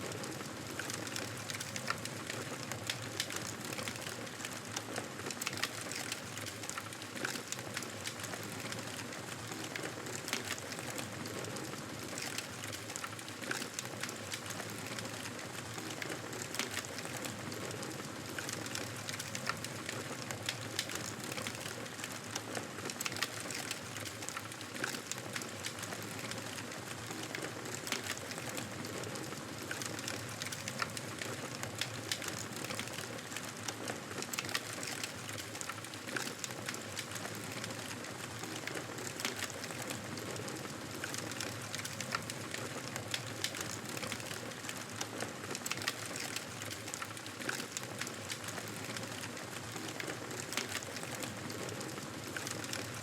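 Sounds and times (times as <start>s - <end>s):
wood fire crackling: 0.1s - 53.0s.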